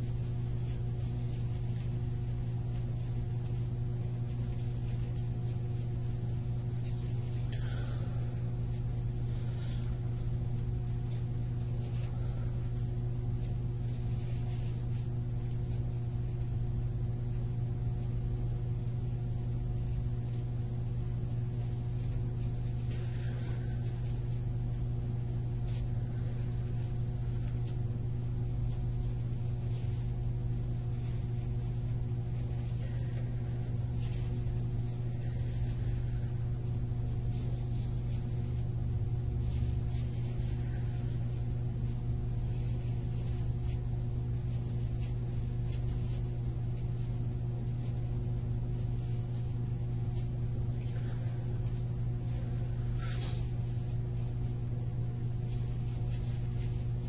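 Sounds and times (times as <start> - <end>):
faint rustles: 0.0 - 57.0
low hum: 0.0 - 57.0.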